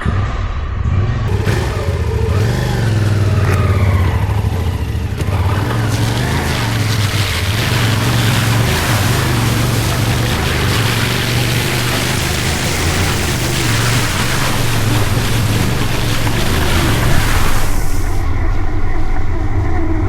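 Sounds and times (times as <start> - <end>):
motorcycle engine running: 0.9 - 20.0
water splashing: 1.3 - 18.5.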